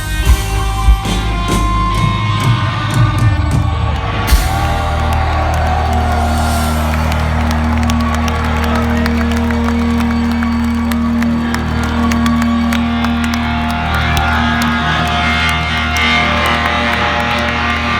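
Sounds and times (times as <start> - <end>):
live rock band playing: 0.0 - 17.9.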